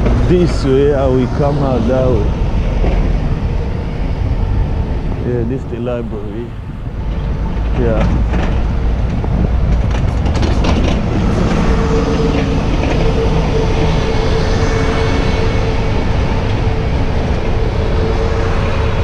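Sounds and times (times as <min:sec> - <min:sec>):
steady whine: 0:00.0 - 0:19.0
train rumbling past: 0:00.0 - 0:19.0.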